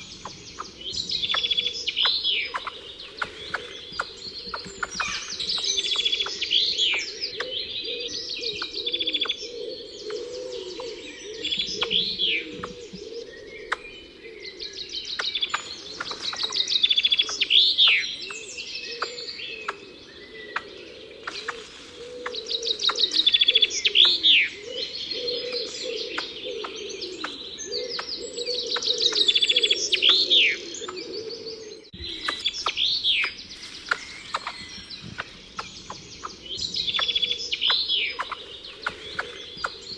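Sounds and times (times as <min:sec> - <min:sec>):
wild birds singing: 0:00.0 - 0:39.9.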